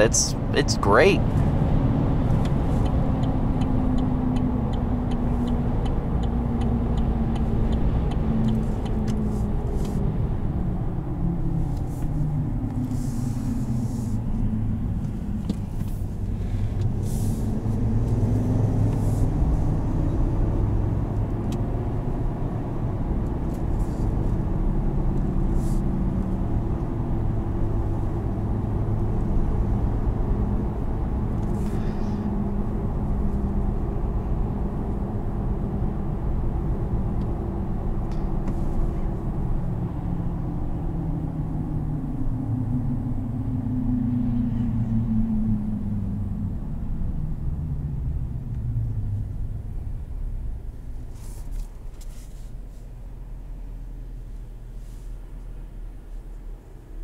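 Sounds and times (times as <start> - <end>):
engine and road rumble in cab: 0.0 - 57.0.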